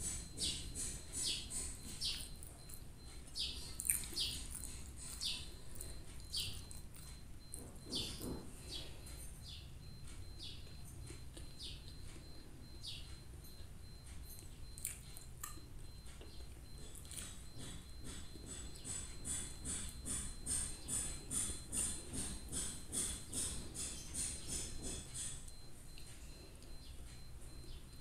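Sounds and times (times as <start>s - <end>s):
small bird chirping: 0.0s - 28.0s.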